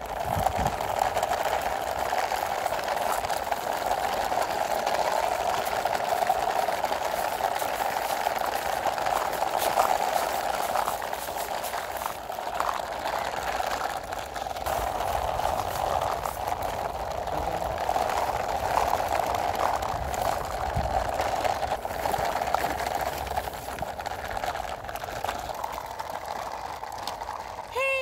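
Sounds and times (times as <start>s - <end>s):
plastic wheels rolling on concrete: 0.0s - 28.0s.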